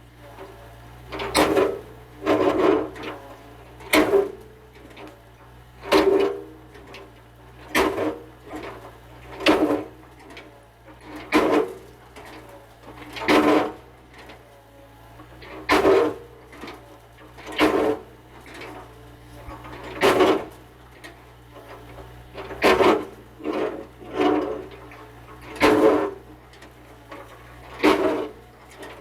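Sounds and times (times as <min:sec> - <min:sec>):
excavator creaking and scraping: 0:00.0 - 0:29.0.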